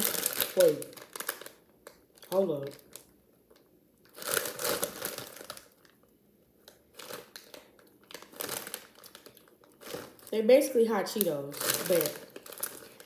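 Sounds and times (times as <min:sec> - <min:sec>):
plastic snack bag crinkling: 0:00.0 - 0:13.0.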